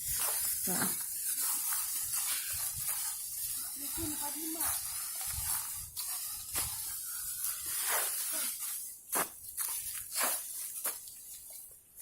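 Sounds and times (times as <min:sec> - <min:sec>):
dry leaves rustling underfoot: 0:00.0 - 0:12.0.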